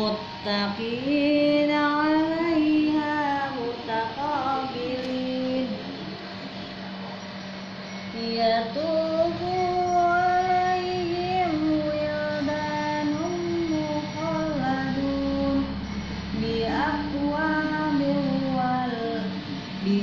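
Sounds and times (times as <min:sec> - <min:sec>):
steady low drone: 0:00.0 - 0:20.0.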